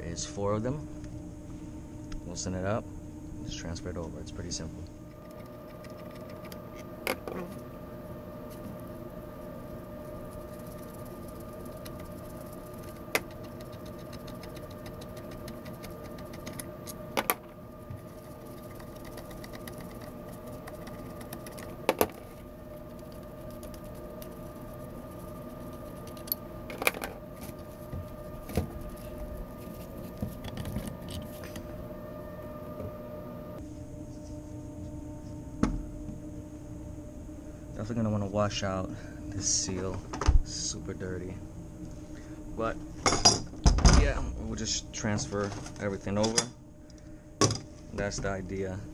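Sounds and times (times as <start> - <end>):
steady mechanical hum: 0.0 - 48.9.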